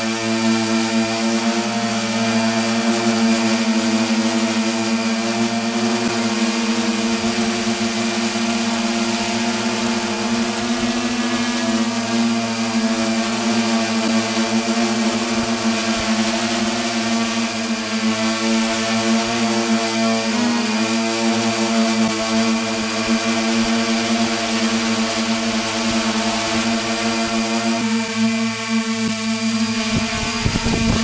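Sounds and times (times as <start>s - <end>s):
drone propellers humming: 0.0s - 31.0s.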